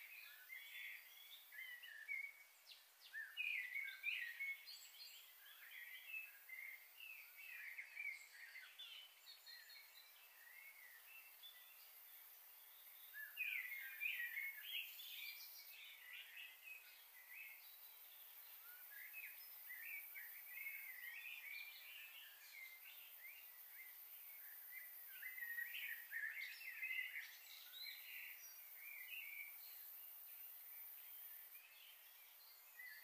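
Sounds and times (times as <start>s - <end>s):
small birds chirping: 0.0s - 33.0s
steady high hiss: 0.0s - 33.0s.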